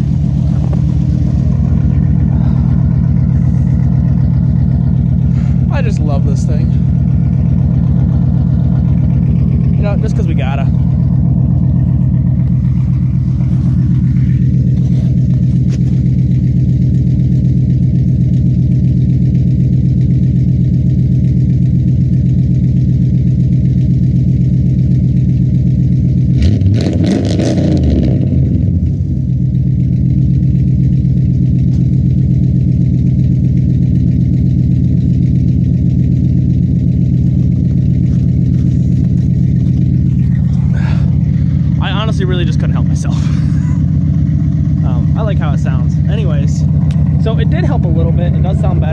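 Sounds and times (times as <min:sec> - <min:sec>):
pickup engine idling and revving: 0:00.0 - 0:48.9.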